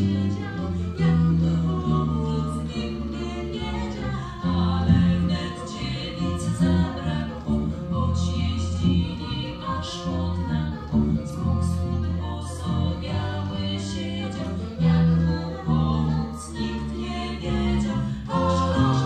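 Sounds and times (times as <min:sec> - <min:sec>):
vocal ensemble singing in harmony: 0:00.0 - 0:19.0.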